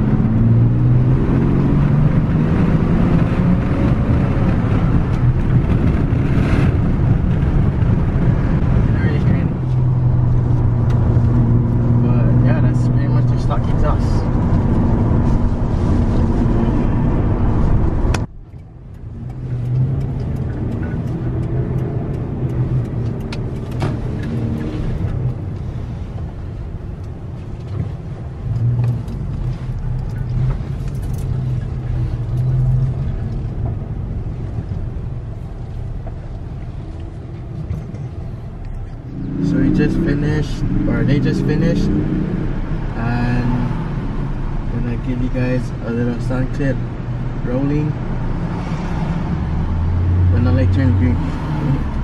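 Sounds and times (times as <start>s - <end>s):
engine and road noise in cab: 0.0s - 52.0s
vehicle engine hum: 0.0s - 52.0s.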